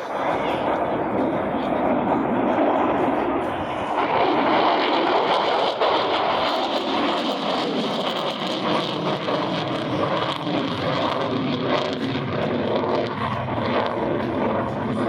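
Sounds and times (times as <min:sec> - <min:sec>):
loud jet engine noise: 0:00.0 - 0:15.0.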